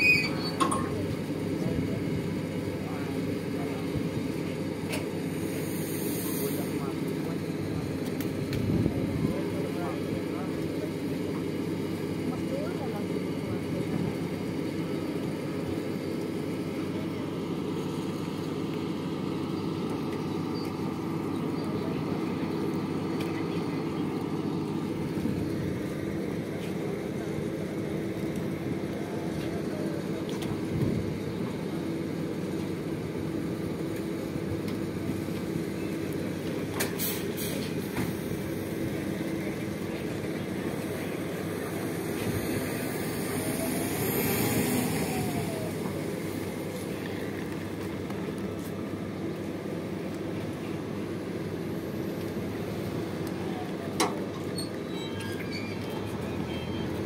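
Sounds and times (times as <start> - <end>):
turboprop engine drone: 0.0 - 57.0.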